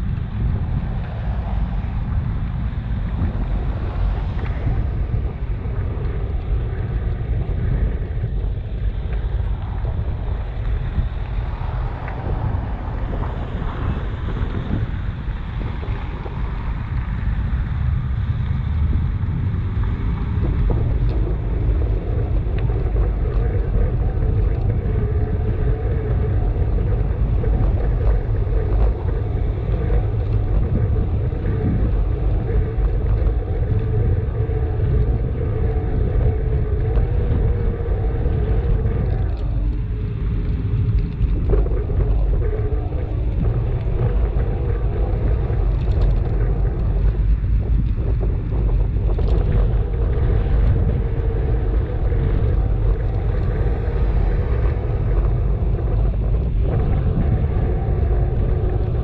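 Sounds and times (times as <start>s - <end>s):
bicycle road rumble: 0.0s - 59.0s
steady humming tone: 0.0s - 59.0s
wind buffeting microphone: 0.0s - 59.0s.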